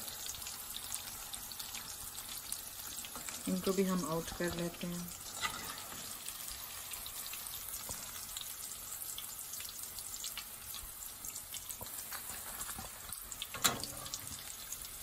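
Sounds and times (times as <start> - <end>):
crackles and pops of frying: 0.0 - 15.0
oil bubbling while deep-frying: 0.0 - 15.0.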